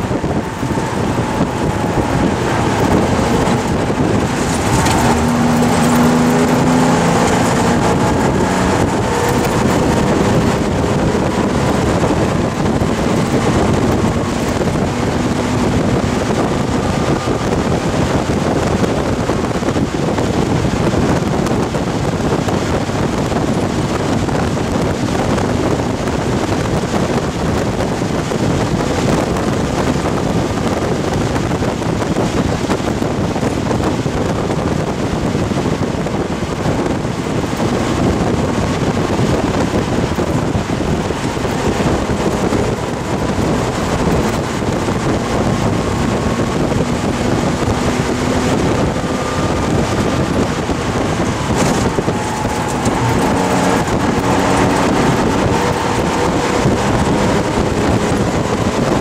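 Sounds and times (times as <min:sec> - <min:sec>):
car engine running hard: 0:00.0 - 0:59.0
wind and road noise: 0:00.0 - 0:59.0.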